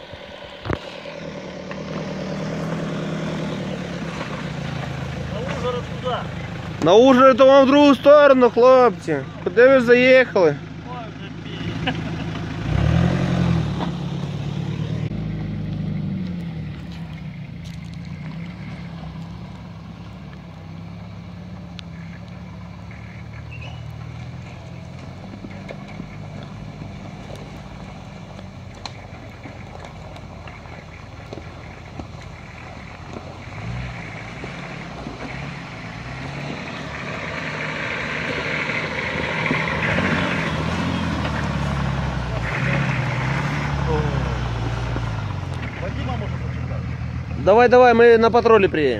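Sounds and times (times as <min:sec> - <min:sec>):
off-road engine climbing track: 0:00.0 - 0:48.9
off-road vehicle revving past: 0:00.0 - 0:48.9.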